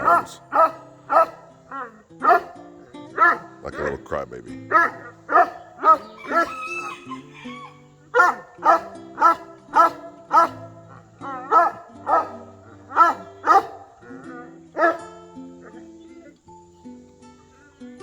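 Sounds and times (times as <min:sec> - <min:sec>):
dog barking: 0:00.0 - 0:04.0, 0:04.7 - 0:07.5, 0:08.1 - 0:15.9
background music: 0:00.0 - 0:18.0.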